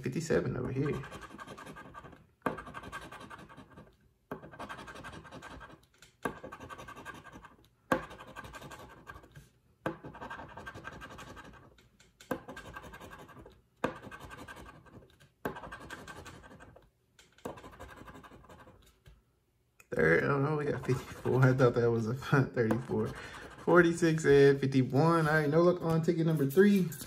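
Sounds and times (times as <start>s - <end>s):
scratching lottery ticket: 0.2s - 16.8s, 17.4s - 19.0s, 20.1s - 22.1s, 22.8s - 24.3s.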